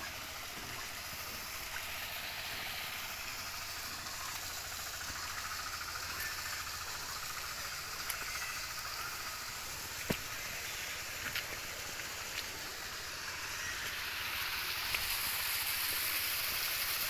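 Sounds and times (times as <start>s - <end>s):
hissing outdoor noise: 0.0s - 17.0s.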